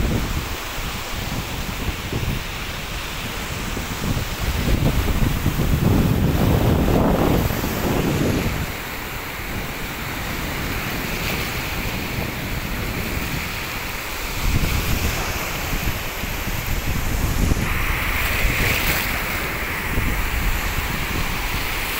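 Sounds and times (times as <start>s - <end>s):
surf breaking on a beach: 0.0s - 21.9s
wind buffeting the microphone: 0.0s - 21.9s.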